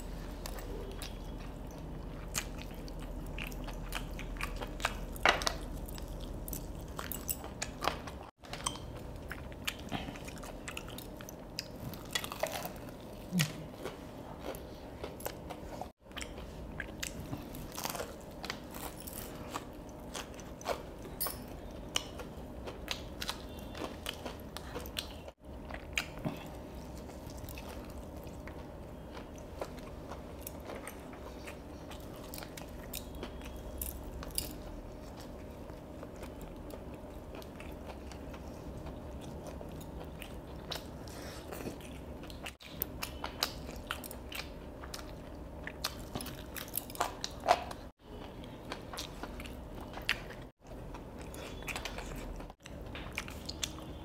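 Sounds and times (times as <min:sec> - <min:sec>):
steady chewing: 0:00.0 - 0:54.0.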